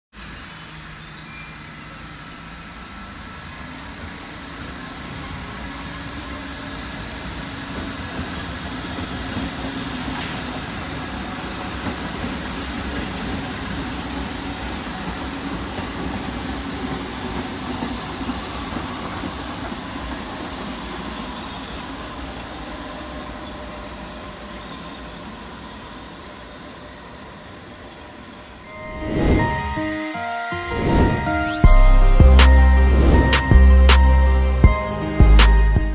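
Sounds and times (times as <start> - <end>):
subway train wheels rumbling: 0.1 - 35.9.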